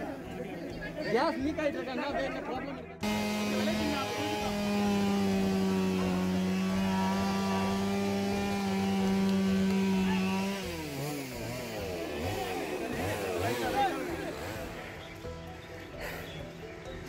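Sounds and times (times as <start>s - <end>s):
small engine running: 3.0s - 16.9s.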